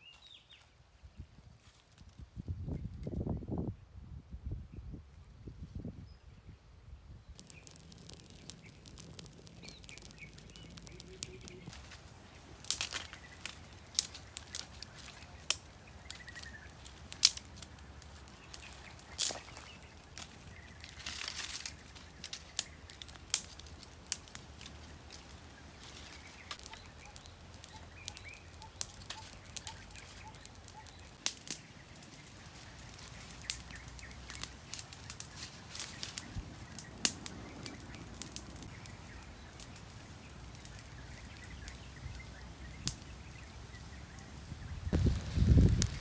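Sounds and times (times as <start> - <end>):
campfire crackling and popping: 7.2 - 46.0.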